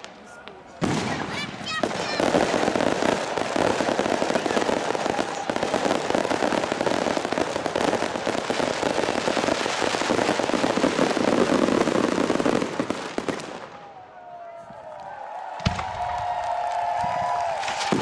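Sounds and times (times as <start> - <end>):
fireworks popping and crackling: 0.0 - 13.9, 14.8 - 18.0.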